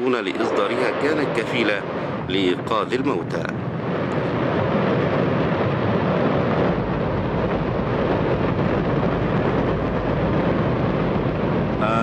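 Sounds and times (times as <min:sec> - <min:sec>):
rocket engine roaring: 0:00.0 - 0:12.0.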